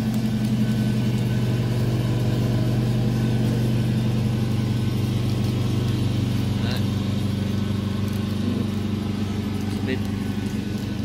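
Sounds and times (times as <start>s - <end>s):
low mechanical engine drone: 0.0s - 11.0s.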